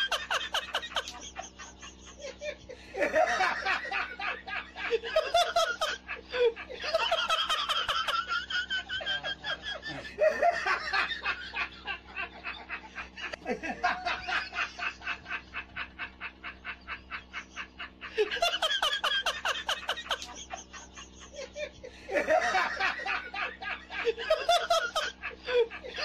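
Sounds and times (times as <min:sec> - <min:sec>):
people laughing: 0:00.0 - 0:26.0.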